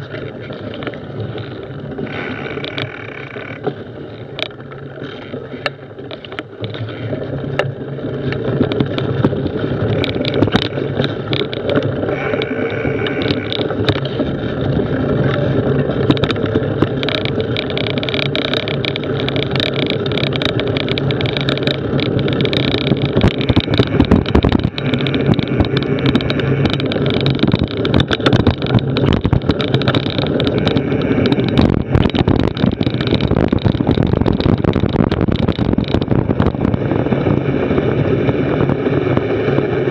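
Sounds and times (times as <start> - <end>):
bike running drone: 0.0 - 39.9.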